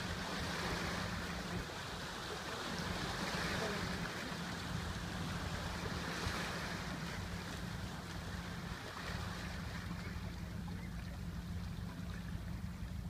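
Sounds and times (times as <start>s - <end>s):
ship engine hum: 0.0s - 13.0s
water noise: 0.0s - 13.0s
wind: 0.0s - 13.0s.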